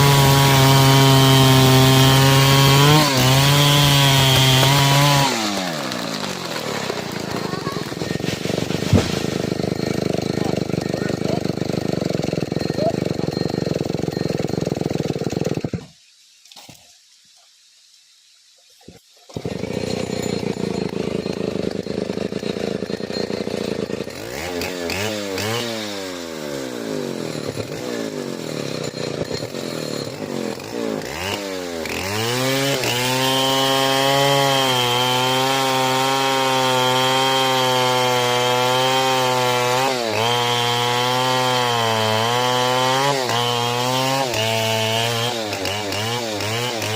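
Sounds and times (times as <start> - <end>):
chainsaw cutting wood: 0.0 - 16.0, 18.9 - 46.9.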